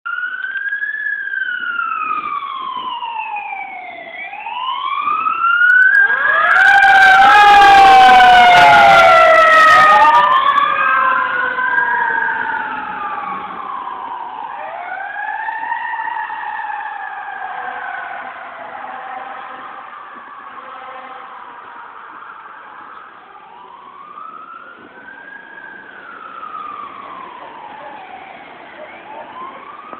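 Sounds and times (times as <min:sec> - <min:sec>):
fire truck siren wailing: 0:00.1 - 0:29.9.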